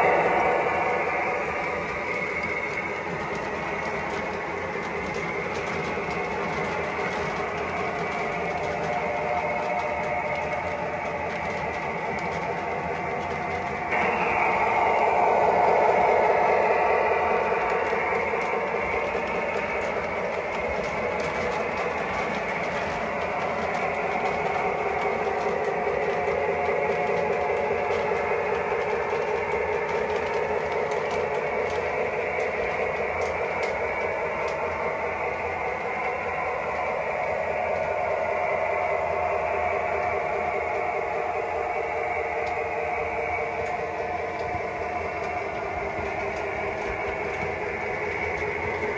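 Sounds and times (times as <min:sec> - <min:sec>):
toy train wheels rumbling: 0:00.0 - 0:48.9.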